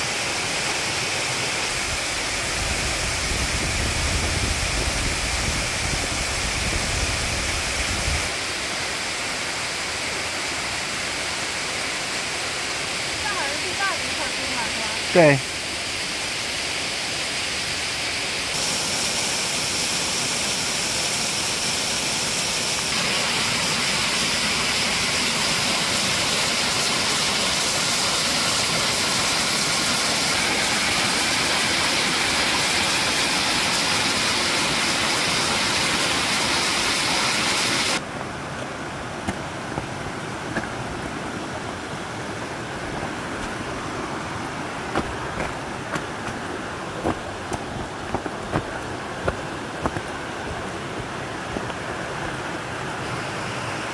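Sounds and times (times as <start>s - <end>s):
waterfall rushing and splashing: 0.0s - 53.9s.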